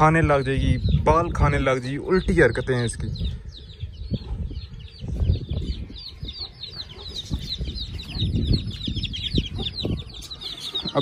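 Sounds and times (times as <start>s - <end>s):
high-pitched peeping calls: 0.0s - 11.0s
chickens clucking: 0.1s - 11.0s.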